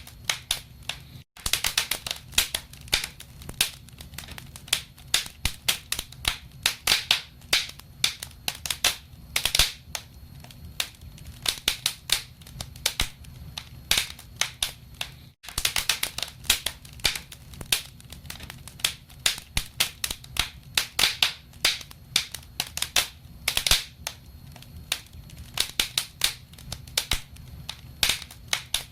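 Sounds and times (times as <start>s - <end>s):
wood fire crackling and popping: 0.0s - 28.9s.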